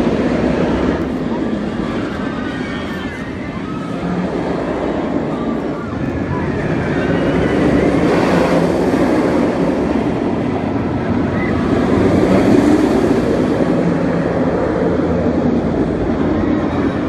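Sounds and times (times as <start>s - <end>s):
roller coaster wheels rumbling: 0.0s - 17.0s.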